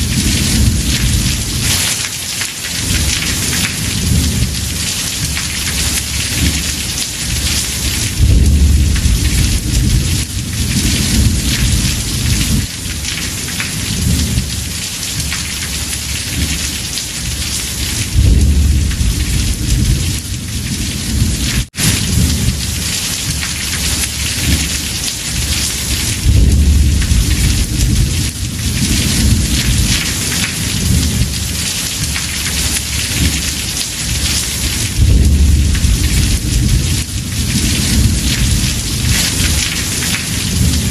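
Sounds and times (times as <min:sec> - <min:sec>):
thunder rumbling: 0:00.0 - 0:01.9, 0:02.7 - 0:40.9
heavy rain on a roof: 0:00.0 - 0:40.9.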